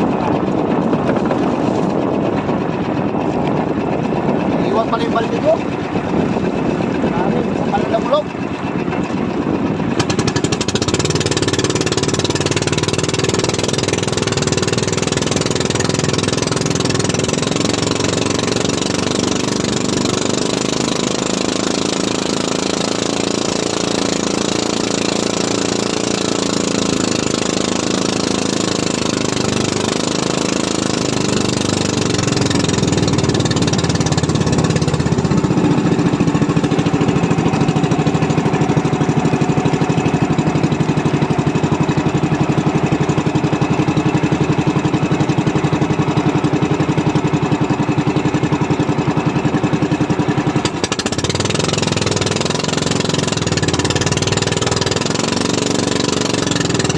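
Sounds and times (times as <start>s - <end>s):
boat engine droning with knocking: 0.0s - 56.9s.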